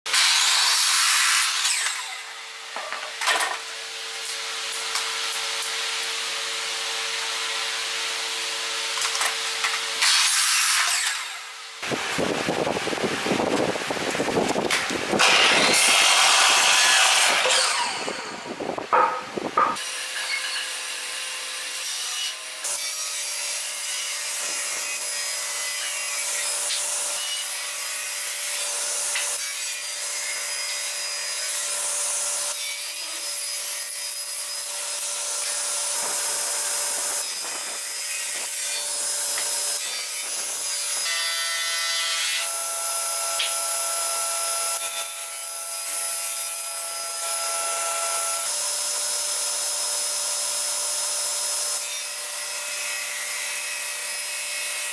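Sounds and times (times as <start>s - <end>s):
panel saw cutting wood: 0.1s - 54.9s.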